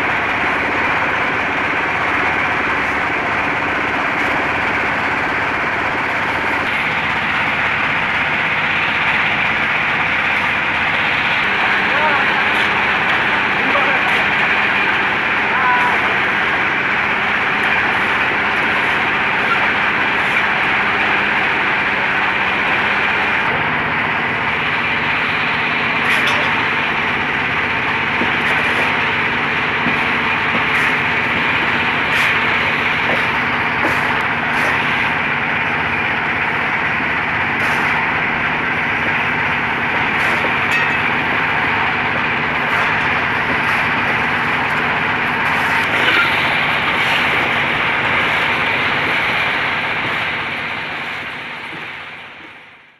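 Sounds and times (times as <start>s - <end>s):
machine motor running: 0.0s - 52.7s.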